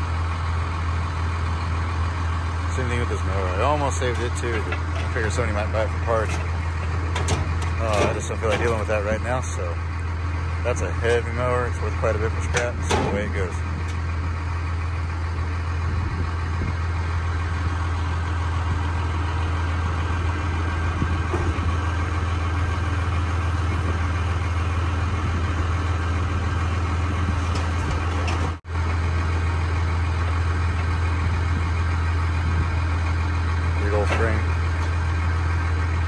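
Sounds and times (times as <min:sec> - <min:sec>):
vehicle engine idling: 0:00.0 - 0:36.0.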